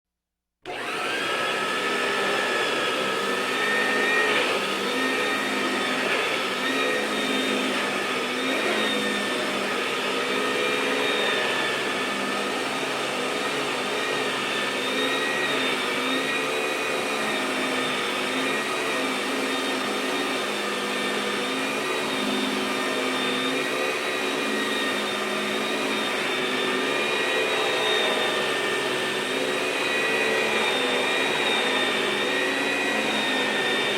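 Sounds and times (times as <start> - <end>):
vacuum cleaner running: 0.6 - 33.9.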